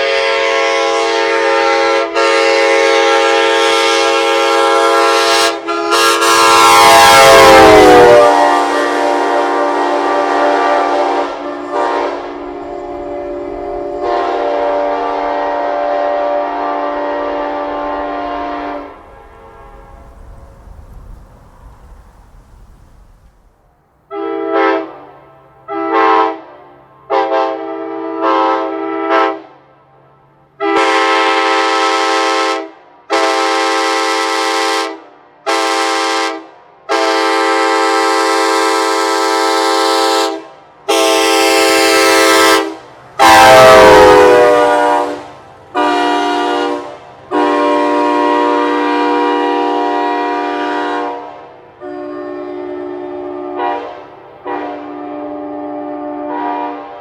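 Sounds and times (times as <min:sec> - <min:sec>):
train horn blasts: 0:00.0 - 0:20.8, 0:24.1 - 0:57.0.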